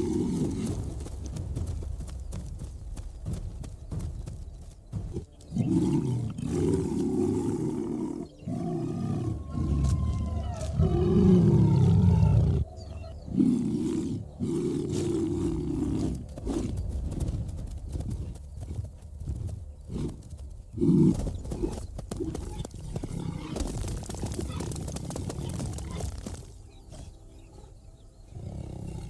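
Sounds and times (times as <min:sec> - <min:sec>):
lions growling and roaring: 0:00.0 - 0:01.0, 0:04.9 - 0:18.8, 0:19.8 - 0:26.2, 0:26.9 - 0:29.0.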